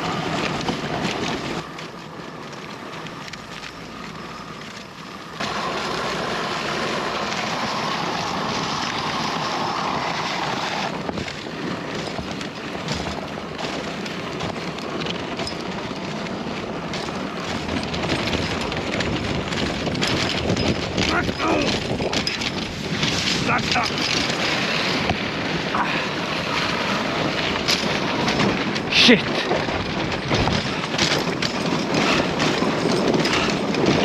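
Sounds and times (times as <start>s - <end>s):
sled runners scraping over snow: 0.0s - 34.0s
wind noise on microphone: 5.4s - 34.0s.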